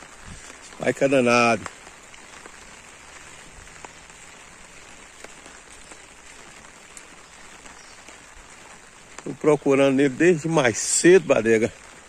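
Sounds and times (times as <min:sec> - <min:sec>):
faint rain ticks: 0:00.0 - 0:12.0
light rain hissing: 0:00.0 - 0:12.0.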